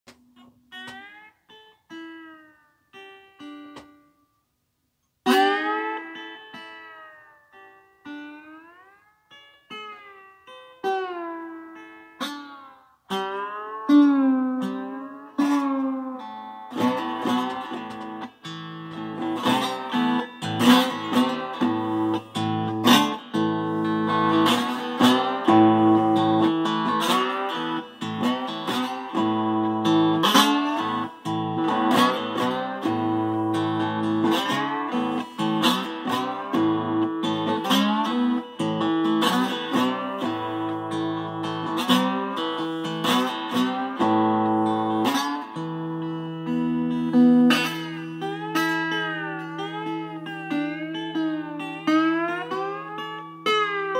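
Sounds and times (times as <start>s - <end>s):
electric guitar playing: 0.1s - 4.2s, 5.3s - 53.9s.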